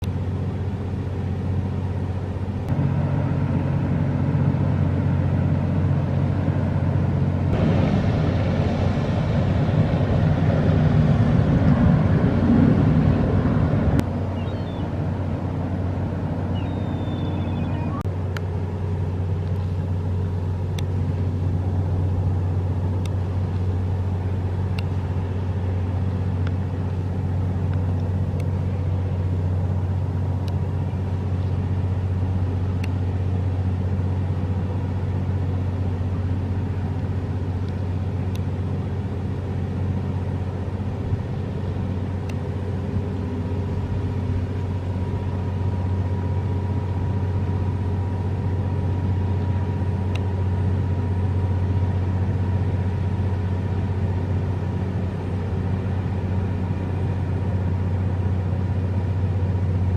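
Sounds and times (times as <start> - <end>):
boat engine droning: 0.0 - 59.9
faint high hum: 0.0 - 59.9.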